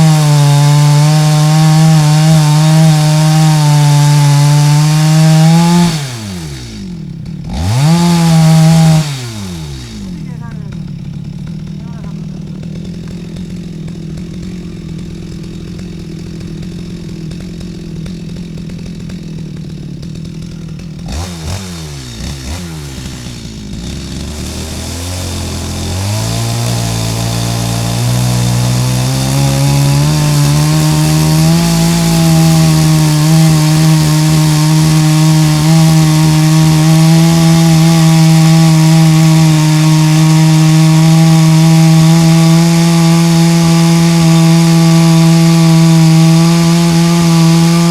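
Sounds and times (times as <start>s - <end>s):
chainsaw cutting wood: 0.0s - 47.9s
chainsaw running: 0.0s - 47.9s.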